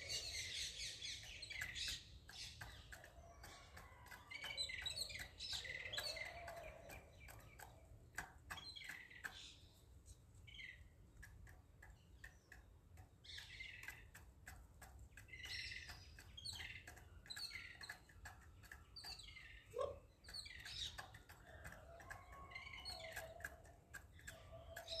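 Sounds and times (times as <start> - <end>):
birds chirping faintly: 0.0 - 25.0.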